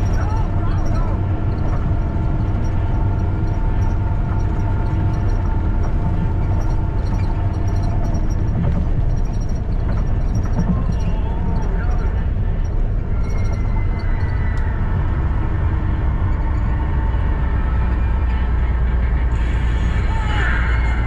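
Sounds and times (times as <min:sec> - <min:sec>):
bus engine and tyre rumble: 0:00.0 - 0:21.0.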